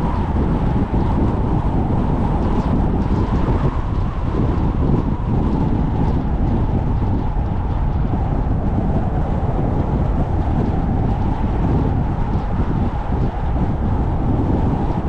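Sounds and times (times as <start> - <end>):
car tyre and wind rumble: 0.0 - 15.0.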